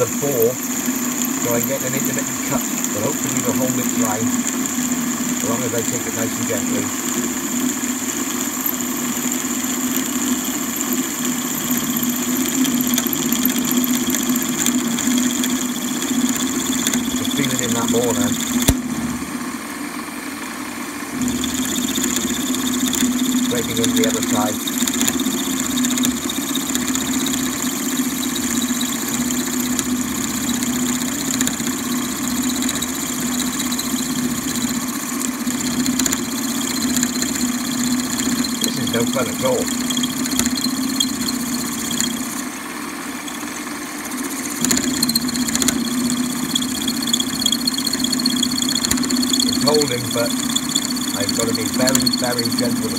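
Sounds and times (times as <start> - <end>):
drill high whine: 0.0 - 52.9
lathe humming: 0.0 - 52.9.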